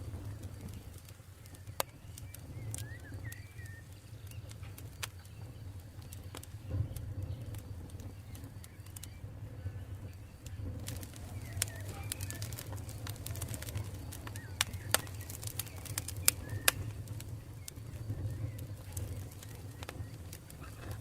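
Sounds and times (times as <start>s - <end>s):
campfire crackling and popping: 0.0s - 21.0s
bird chirping: 0.1s - 21.0s.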